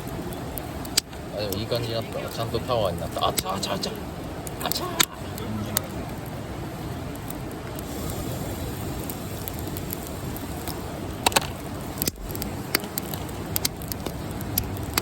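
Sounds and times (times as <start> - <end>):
campfire pops and crackles: 0.0 - 15.0
low rushing fire sound: 0.0 - 15.0.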